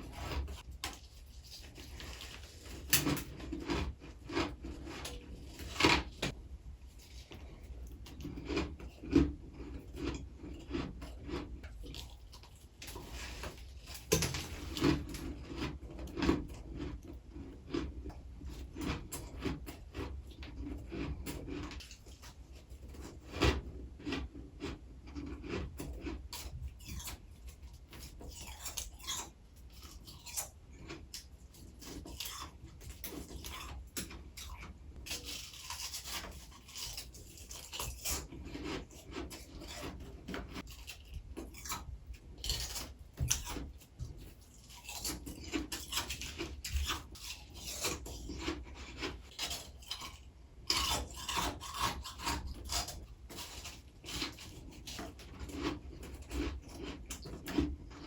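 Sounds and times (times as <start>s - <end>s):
crunching and chewing frost: 0.0s - 58.0s.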